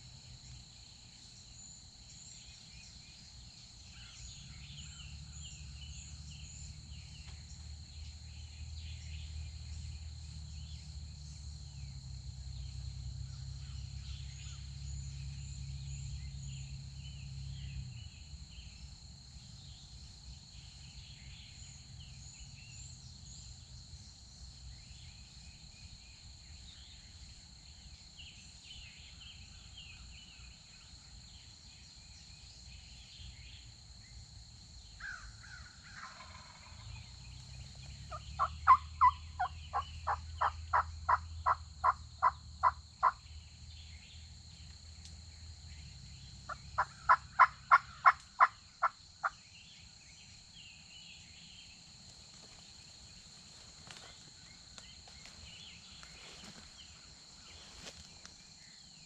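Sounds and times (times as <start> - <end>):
small birds chirping: 0.0 - 34.2, 34.8 - 59.0.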